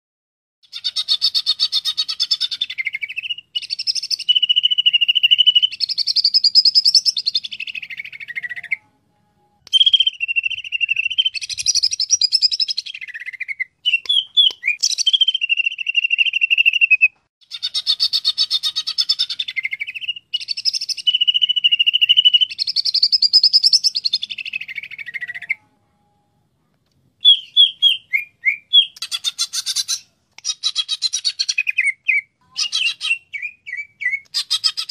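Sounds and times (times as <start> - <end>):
bird singing trills and whistles: 0.6 - 8.9, 9.7 - 25.6, 27.2 - 34.9.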